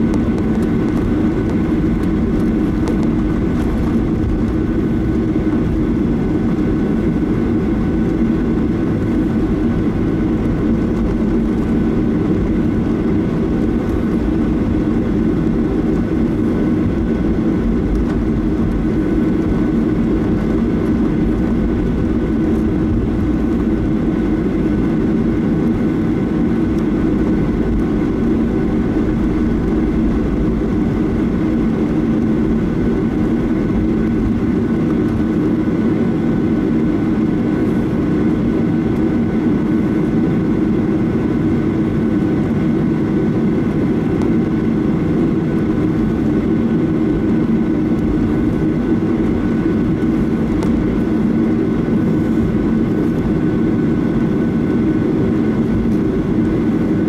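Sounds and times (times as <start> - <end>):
airliner cabin engine drone: 0.0 - 57.0
faint steady hums: 0.0 - 57.0.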